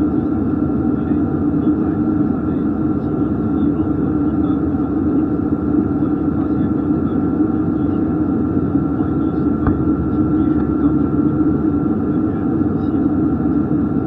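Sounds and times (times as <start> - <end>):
aircraft cabin drone: 0.0 - 14.0.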